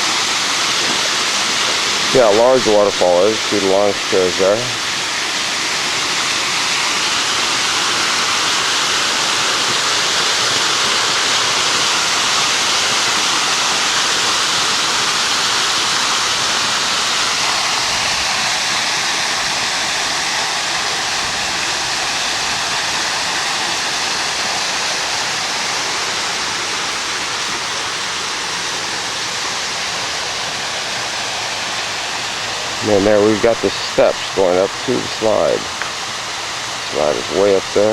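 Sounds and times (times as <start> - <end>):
waterfall splashing into pool: 0.0 - 37.9.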